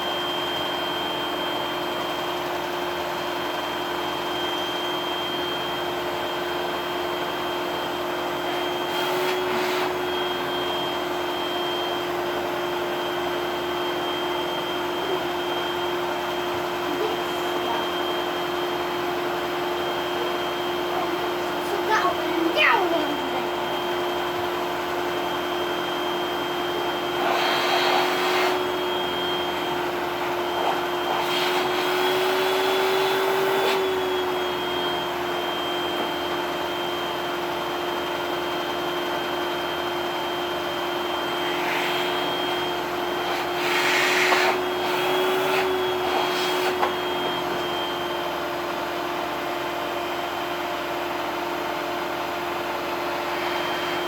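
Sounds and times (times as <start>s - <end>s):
vacuum cleaner motor whining: 0.0s - 54.0s.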